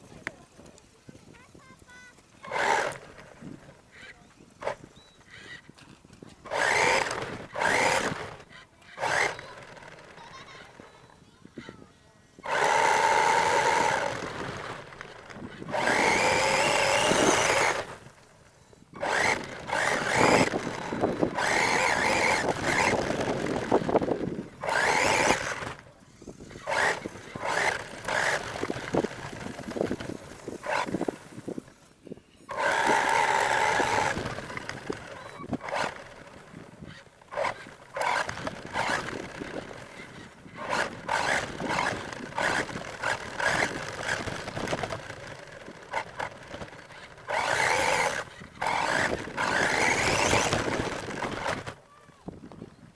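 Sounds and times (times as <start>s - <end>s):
toy truck motor whining: 1.9s - 51.8s.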